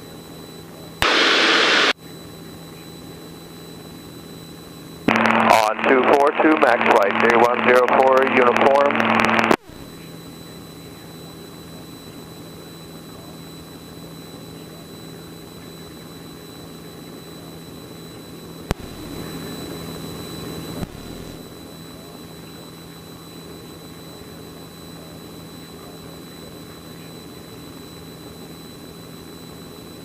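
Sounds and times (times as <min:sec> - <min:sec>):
thin steady whine: 0:00.0 - 0:30.0.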